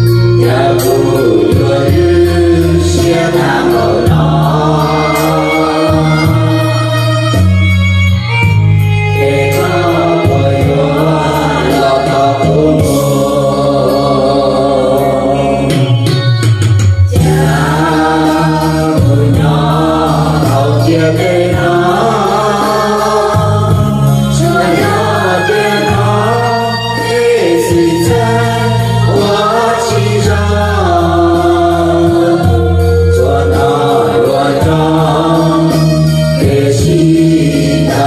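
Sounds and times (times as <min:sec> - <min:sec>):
group of voices singing: 0:00.0 - 0:16.3, 0:17.1 - 0:38.0
instrumental backing music: 0:00.0 - 0:38.0.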